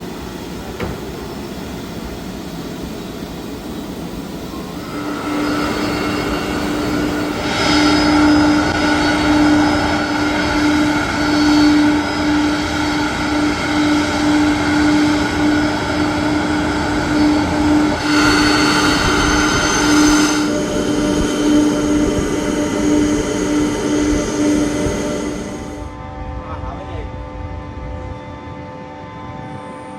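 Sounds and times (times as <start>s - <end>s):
jet engines whining: 0.0s - 29.9s.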